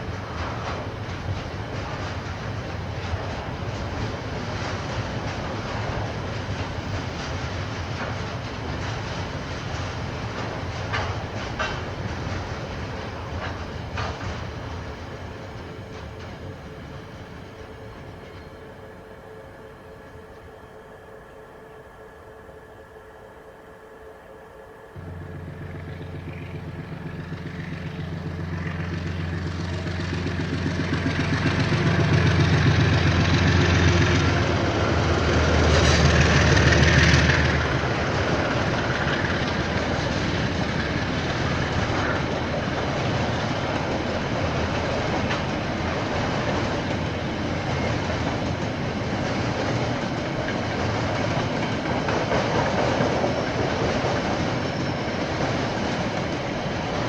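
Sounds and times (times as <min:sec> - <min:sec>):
wagons clickety-clack on rail joints: 0:00.0 - 0:18.8, 0:25.0 - 0:57.0
diesel locomotive engine drone: 0:00.0 - 0:57.0.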